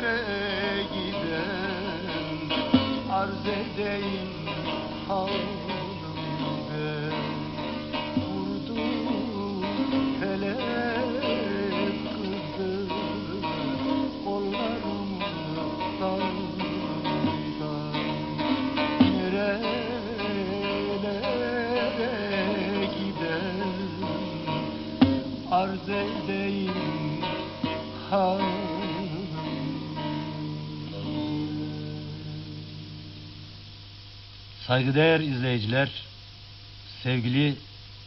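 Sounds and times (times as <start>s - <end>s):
plucked long-necked lute melody: 0.0s - 32.8s.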